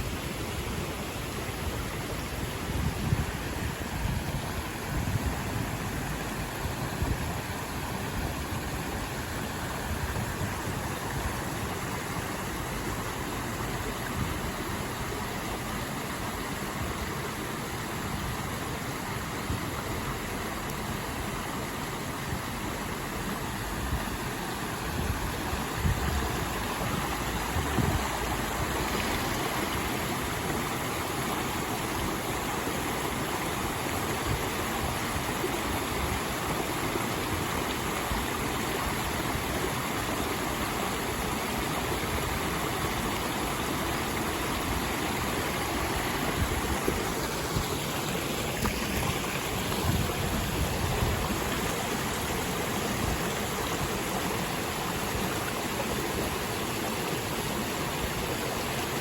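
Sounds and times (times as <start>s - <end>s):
stream water rushing over rocks: 0.0s - 59.0s.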